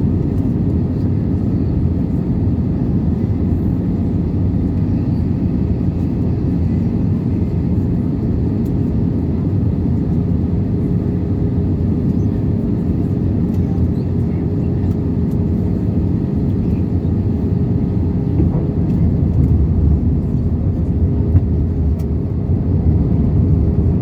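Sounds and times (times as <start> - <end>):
airflow and engine drone: 0.0 - 24.0.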